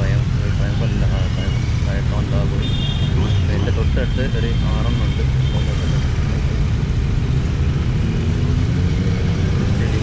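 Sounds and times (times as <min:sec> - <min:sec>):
motorcycle engine rumble: 0:00.0 - 0:10.0
road noise: 0:00.0 - 0:10.0.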